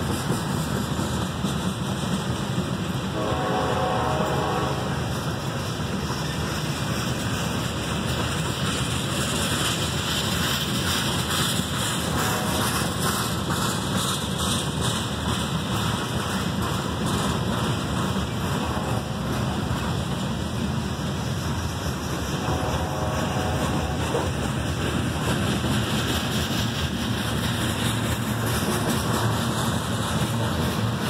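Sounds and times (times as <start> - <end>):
freight train wheels rumbling on rail: 0.0 - 31.0.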